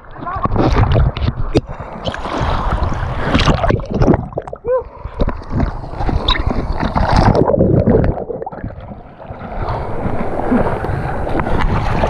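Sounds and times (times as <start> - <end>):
water crashing on microphone: 0.0 - 12.0.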